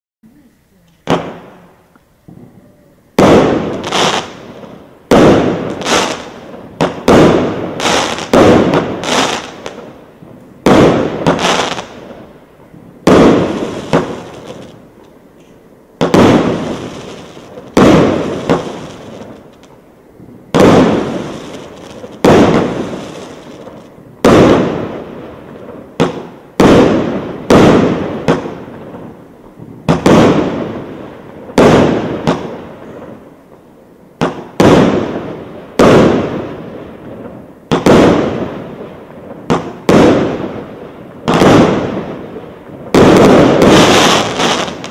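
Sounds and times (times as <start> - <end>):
hissing firework tails: 0.2 - 44.9
fireworks bangs: 1.0 - 44.9.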